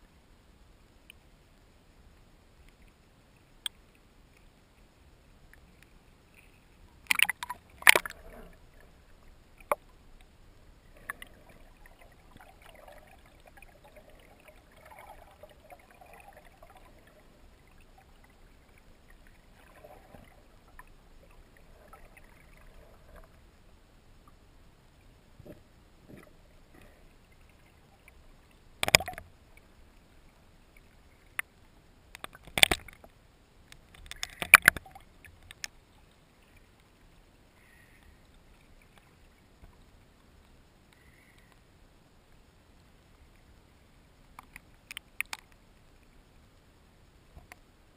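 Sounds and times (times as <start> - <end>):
water splashing and sloshing: 2.6 - 41.5.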